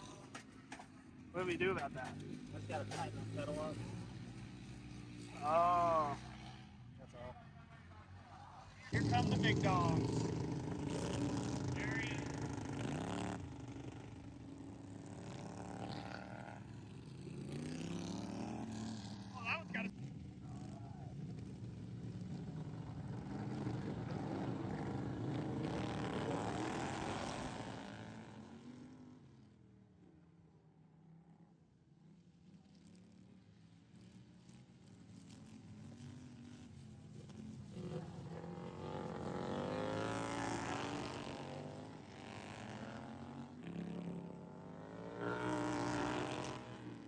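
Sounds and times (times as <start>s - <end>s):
racing lawnmower engines: 0.0s - 30.6s, 31.2s - 47.0s.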